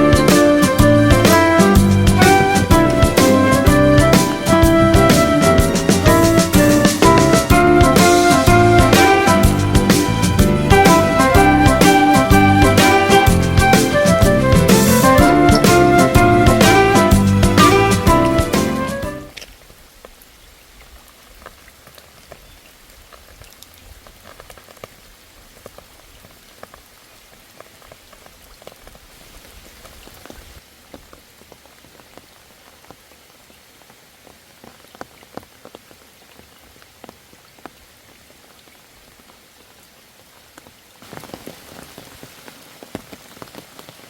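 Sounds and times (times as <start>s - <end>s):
raindrops tapping on leaves: 0.0s - 44.0s
steady rain falling: 0.0s - 44.0s.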